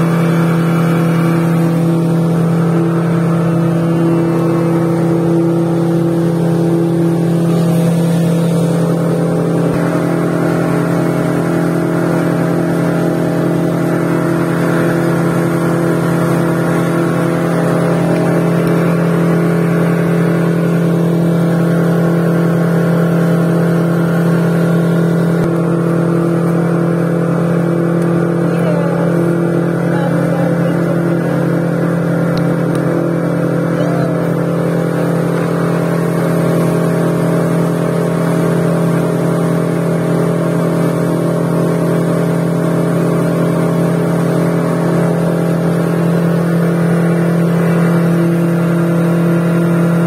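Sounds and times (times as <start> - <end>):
outboard motor running: 0.0 - 50.0
water rushing: 0.0 - 50.0
wind: 0.0 - 50.0.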